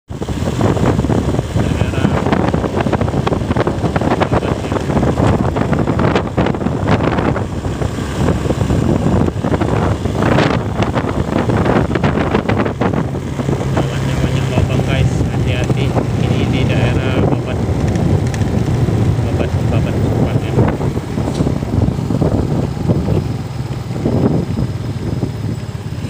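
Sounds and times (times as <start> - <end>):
motorcycle engine running: 0.1 - 26.0
wind rushing over microphone: 0.1 - 26.0.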